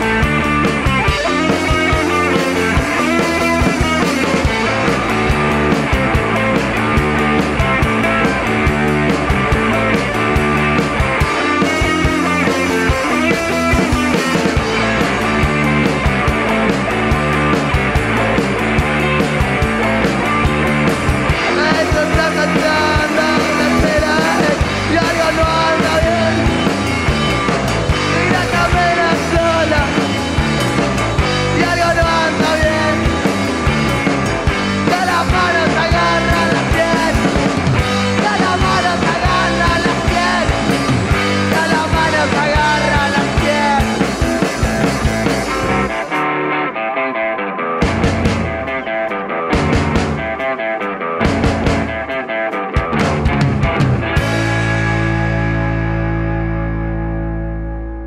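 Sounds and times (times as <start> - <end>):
rock song with electric guitar: 0.0 - 58.0.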